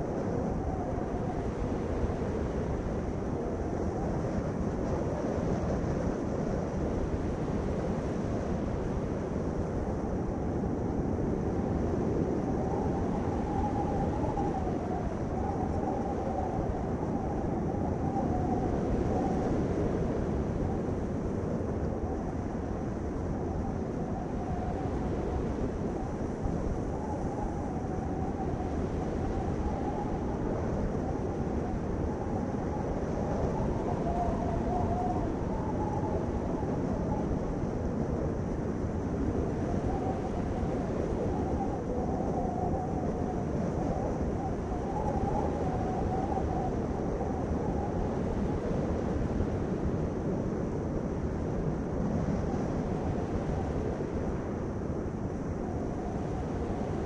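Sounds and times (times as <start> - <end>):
faint wavering whine: 0.0 - 57.0.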